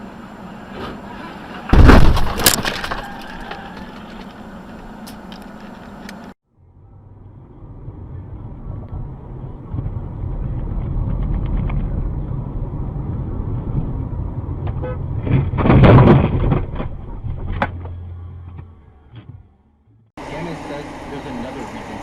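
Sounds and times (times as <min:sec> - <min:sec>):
vehicle engine and road rumble: 0:00.0 - 0:22.0.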